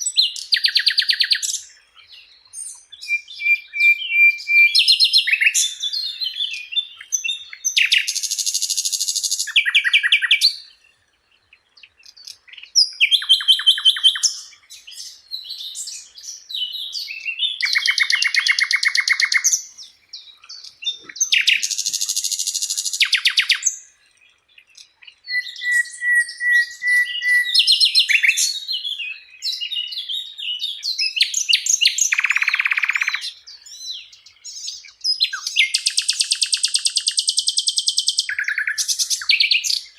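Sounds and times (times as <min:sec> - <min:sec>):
flycatcher singing trills: 0:00.0 - 0:39.9.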